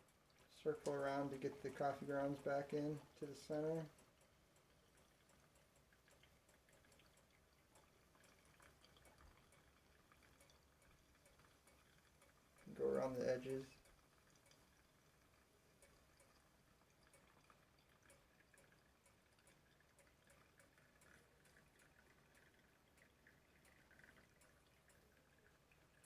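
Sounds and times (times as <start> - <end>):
faint water trickling: 0.0 - 26.0
light drip ticks: 0.0 - 26.0.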